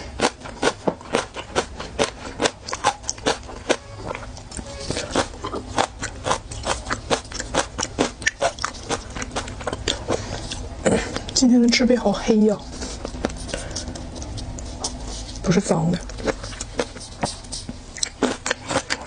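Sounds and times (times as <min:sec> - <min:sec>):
chewing crunchy seafood: 0:00.0 - 0:11.4, 0:12.6 - 0:19.0.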